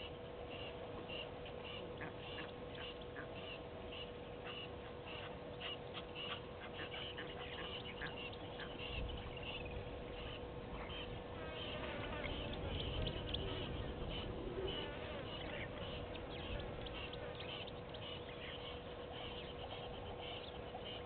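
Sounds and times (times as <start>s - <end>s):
birds calling with high notes: 0.0s - 21.0s
faint steady hum: 0.0s - 21.0s.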